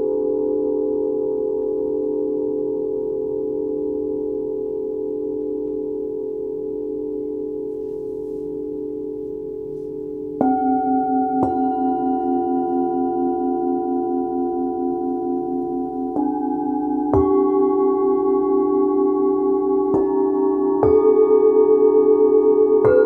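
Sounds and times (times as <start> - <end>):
bowl being struck: 0.0 - 23.0
singing bowls ringing: 0.0 - 23.0.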